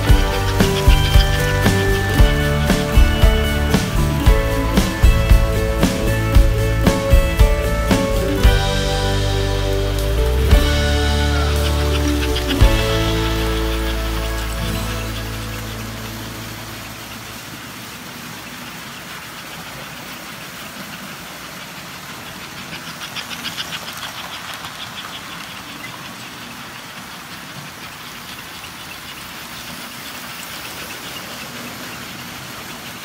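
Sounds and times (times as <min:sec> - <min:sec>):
rhythmic clicking of toy locomotive: 0:00.0 - 0:16.3, 0:19.1 - 0:31.1
toy trains rumbling on track: 0:00.0 - 0:33.0.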